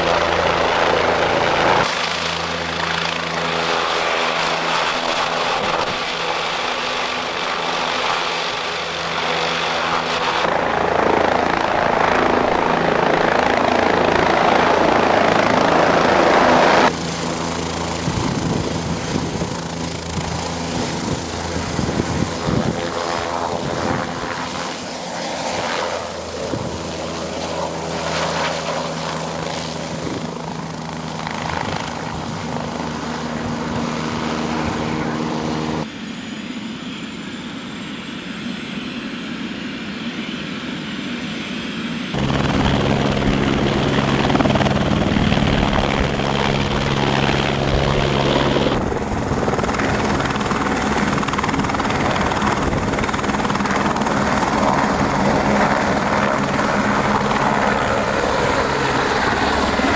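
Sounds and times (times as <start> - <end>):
helicopter rotor beat: 0.0 - 59.9
turbine whine: 0.0 - 59.9.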